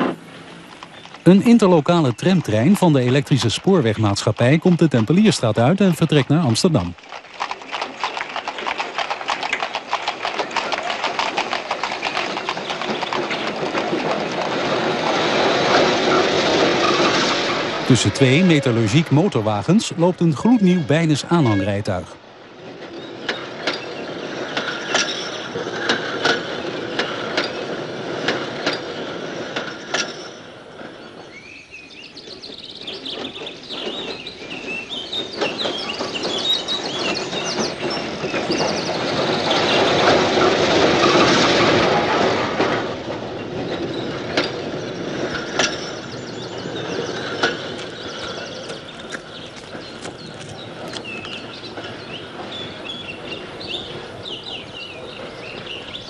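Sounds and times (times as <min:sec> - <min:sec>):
tram wheels clicking on rail joints: 0:00.0 - 0:56.0
tram wheels grinding and squealing: 0:00.0 - 0:56.0.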